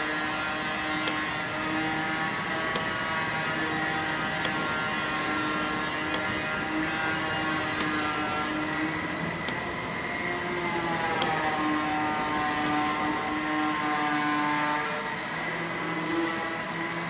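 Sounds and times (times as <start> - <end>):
milling machine whine: 0.0 - 17.0.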